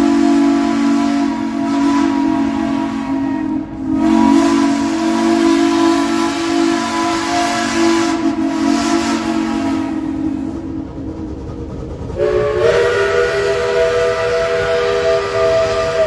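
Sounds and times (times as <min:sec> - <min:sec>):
steam whistle blasts: 0:00.0 - 0:10.8, 0:12.2 - 0:16.0
steam hissing: 0:00.0 - 0:16.0.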